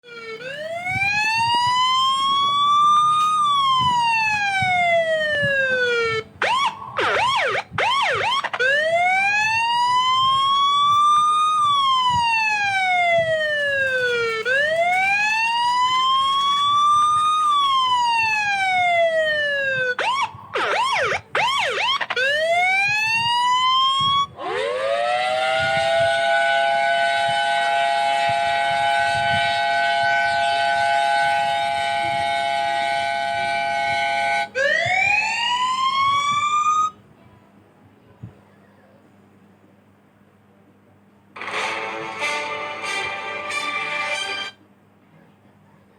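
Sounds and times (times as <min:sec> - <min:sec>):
police siren wailing: 0:00.0 - 0:37.0
siren yelping: 0:00.0 - 0:37.0.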